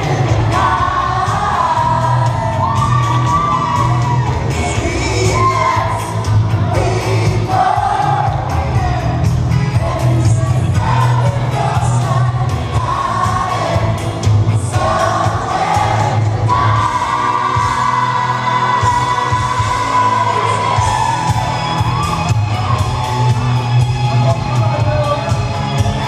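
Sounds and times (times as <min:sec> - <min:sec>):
loud dance music with singing: 0:00.0 - 0:26.0.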